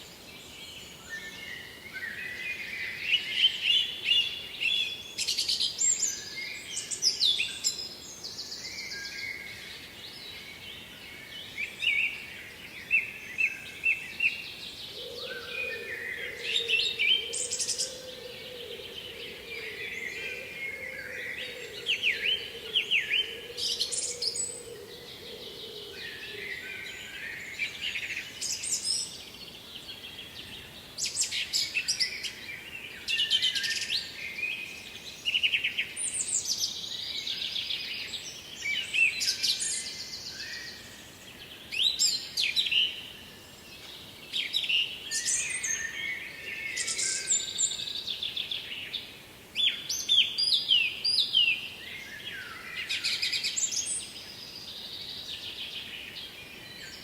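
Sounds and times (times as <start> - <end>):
songbirds singing and trilling: 0.0 - 57.0.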